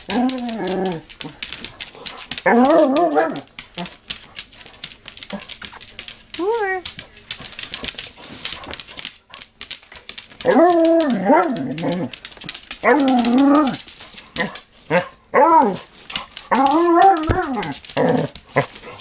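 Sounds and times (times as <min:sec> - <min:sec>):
paws scratching and clicking: 0:00.0 - 0:19.0.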